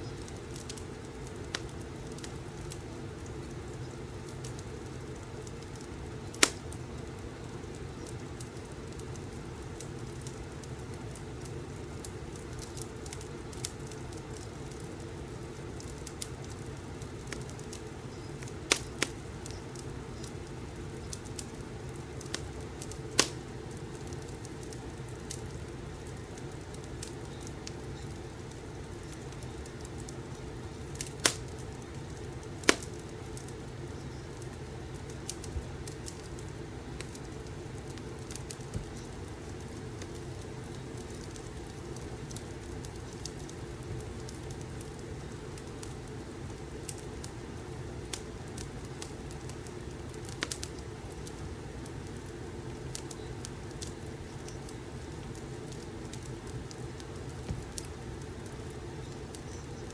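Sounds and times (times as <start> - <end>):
wood fire crackling: 0.0 - 59.9
sharp pops of fire: 0.1 - 20.3, 21.0 - 46.1, 48.0 - 51.4, 52.1 - 58.0.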